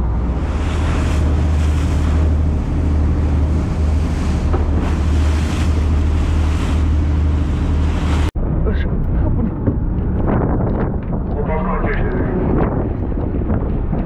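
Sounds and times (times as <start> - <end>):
waves: 0.0 - 13.9
boat engine drone: 0.0 - 14.0
wind buffeting microphone: 0.0 - 14.0.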